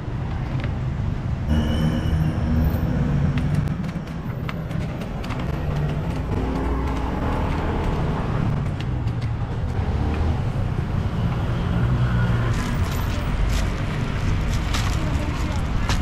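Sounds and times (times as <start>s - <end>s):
low rumble of passing vehicles: 0.0s - 16.0s.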